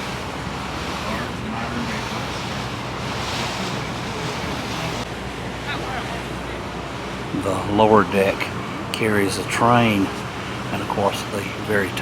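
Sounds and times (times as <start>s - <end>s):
low engine drone: 0.0s - 12.0s
water rushing: 0.0s - 12.0s
wind: 0.0s - 12.0s.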